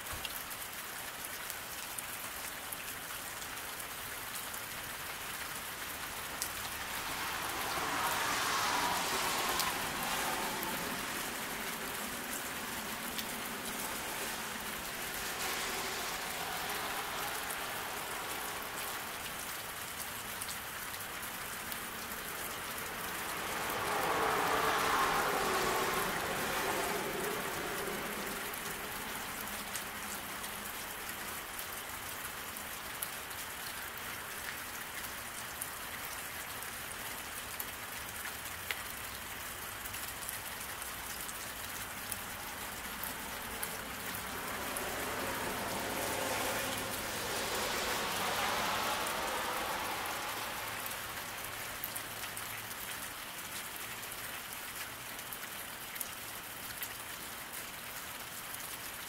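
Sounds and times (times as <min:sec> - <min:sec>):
car passing on wet road: 0:00.0 - 0:59.0
rain falling on road: 0:00.0 - 0:59.0.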